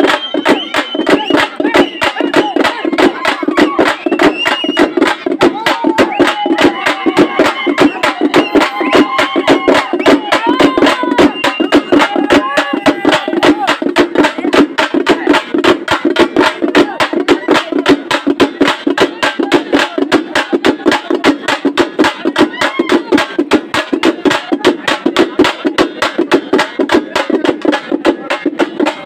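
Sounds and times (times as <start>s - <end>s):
fast loud drumming: 0.0s - 29.0s
voices calling and chanting: 0.0s - 29.0s.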